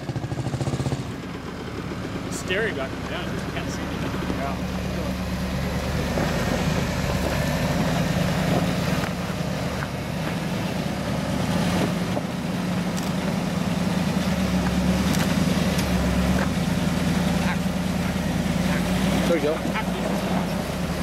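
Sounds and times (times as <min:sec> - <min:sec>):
engine running at low revs: 0:00.0 - 0:21.0.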